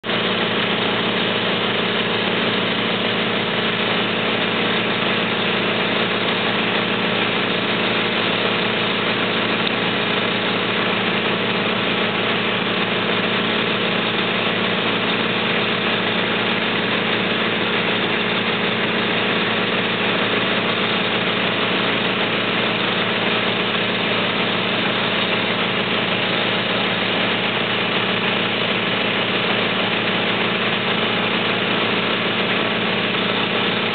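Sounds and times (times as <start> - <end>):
fire engine idling: 0.0 - 33.9.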